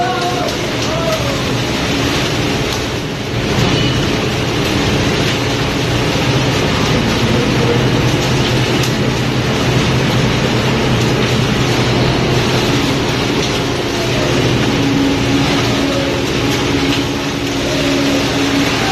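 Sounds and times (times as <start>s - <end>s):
machinery drone: 0.0s - 18.9s.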